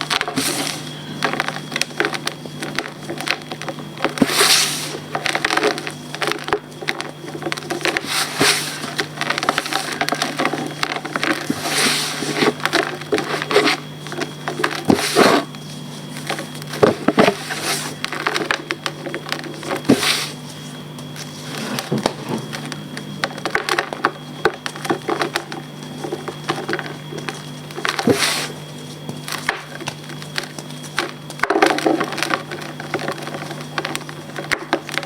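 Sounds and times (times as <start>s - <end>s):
chalk crunching and crumbling: 0.0s - 35.0s
faint steady hum: 0.0s - 35.0s.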